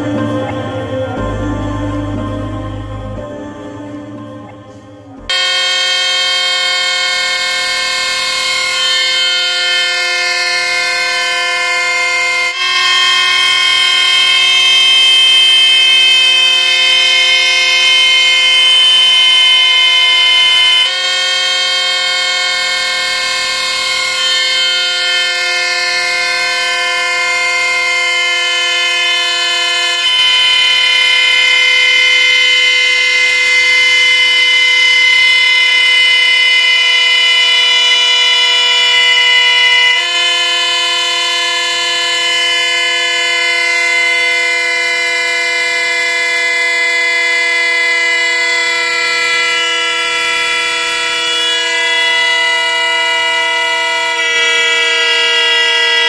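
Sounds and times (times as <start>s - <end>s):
toy horns blowing a held chord: 0.0s - 56.0s.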